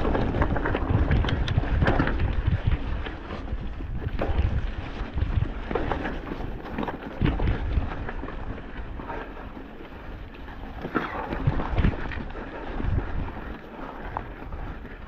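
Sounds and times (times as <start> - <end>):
bike rumbling on dirt trail: 0.0 - 15.0
wind buffeting microphone: 0.0 - 15.0.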